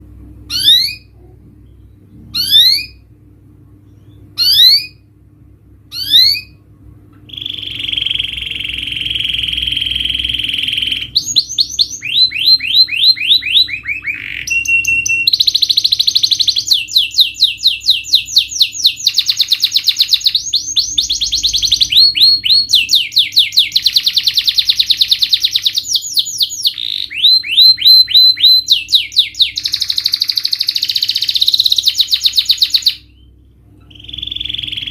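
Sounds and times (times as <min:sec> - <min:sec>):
canary singing: 0:00.5 - 0:03.1, 0:03.8 - 0:05.1, 0:05.9 - 0:06.6, 0:07.3 - 0:34.9.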